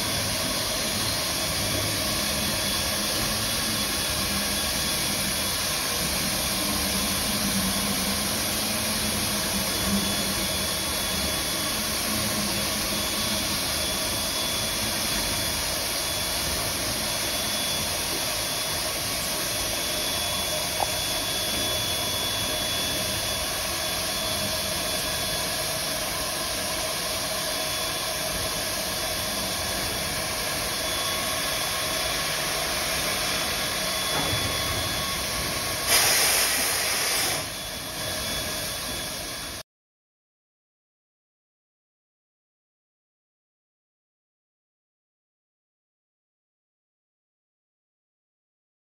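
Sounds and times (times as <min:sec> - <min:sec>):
steam locomotive hissing steam: 0:00.0 - 0:39.6.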